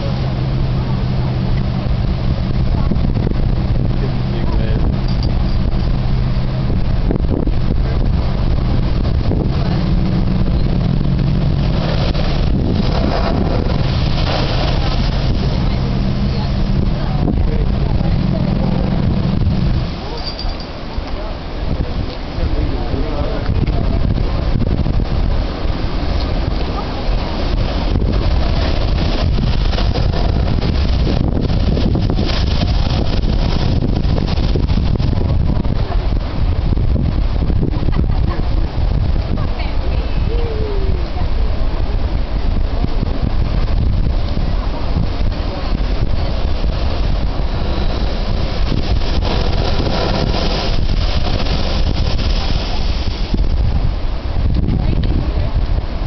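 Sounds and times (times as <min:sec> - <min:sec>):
blowhole hissing rush: 0:00.0 - 0:56.0
ocean surf breaking on rock: 0:00.0 - 0:56.0
wind rumbling on microphone: 0:00.0 - 0:56.0.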